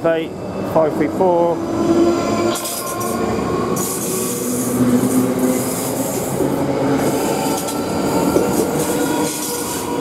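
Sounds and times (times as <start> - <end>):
electric train hum: 0.0 - 10.0.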